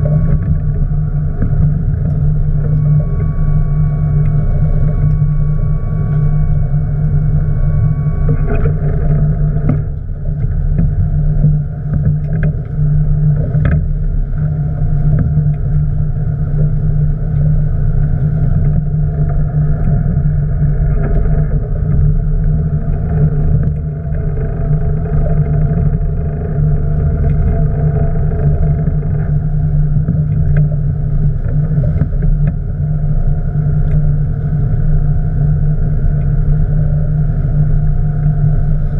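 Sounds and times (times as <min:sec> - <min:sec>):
boat engine humming: 0:00.0 - 0:38.9
thin high whine: 0:00.0 - 0:38.9.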